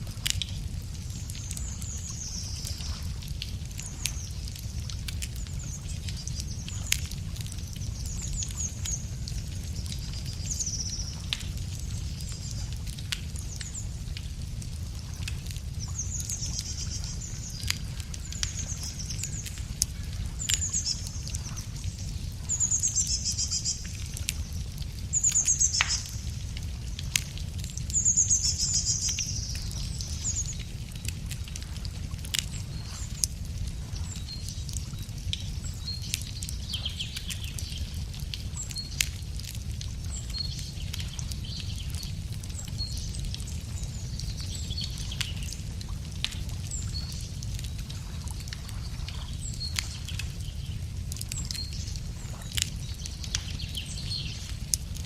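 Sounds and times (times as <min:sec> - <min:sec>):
steady low rumble: 0:00.0 - 0:46.6
campfire crackling and popping: 0:00.0 - 0:55.0.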